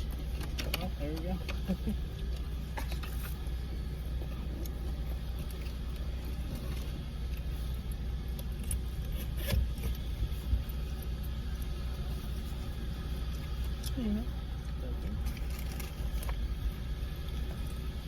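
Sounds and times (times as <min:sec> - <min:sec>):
car idling from inside cabin: 0:00.0 - 0:18.0.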